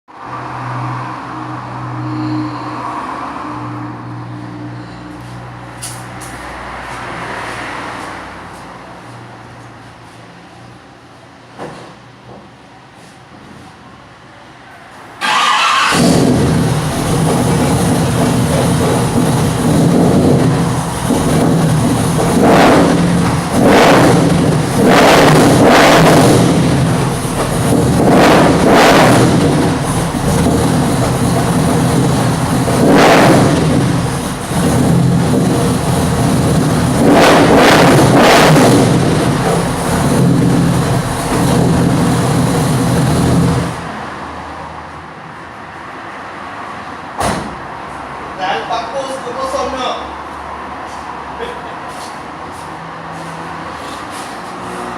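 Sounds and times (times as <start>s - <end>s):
loud car engine idling and revving: 0.1s - 11.5s, 14.1s - 54.9s.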